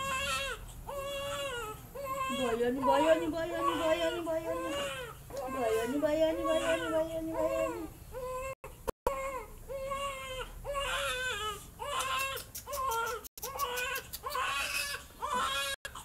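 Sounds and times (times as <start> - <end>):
baby crying: 0.0 - 16.0.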